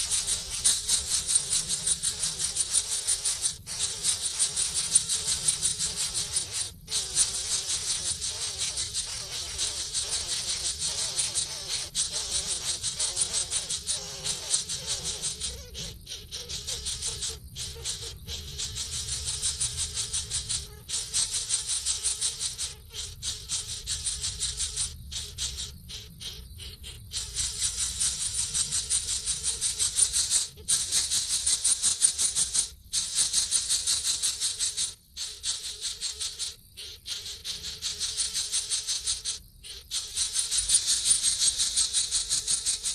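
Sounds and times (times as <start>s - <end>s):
nestling birds chirping: 0.0s - 42.9s.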